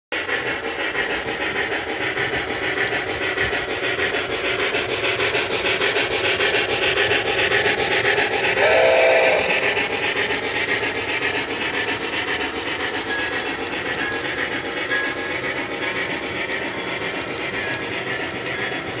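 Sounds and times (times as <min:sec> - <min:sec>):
steam locomotive chuffing: 0:00.1 - 0:19.0.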